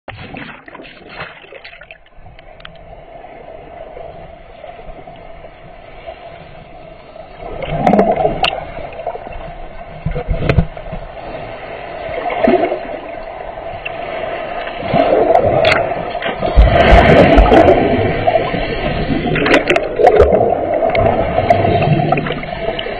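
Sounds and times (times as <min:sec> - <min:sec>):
muffled underwater water rushing: 0:00.1 - 0:22.9.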